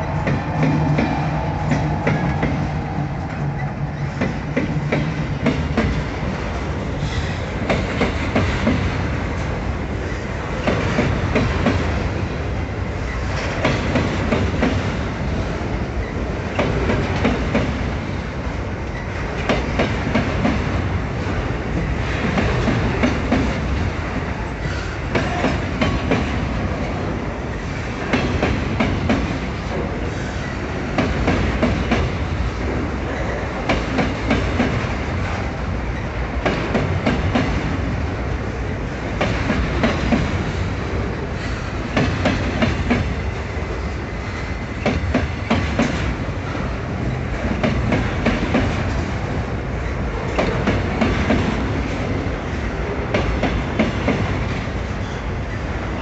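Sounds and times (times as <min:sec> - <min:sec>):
diesel locomotive engine hum: 0:00.0 - 0:56.0
freight train rolling past: 0:00.0 - 0:56.0.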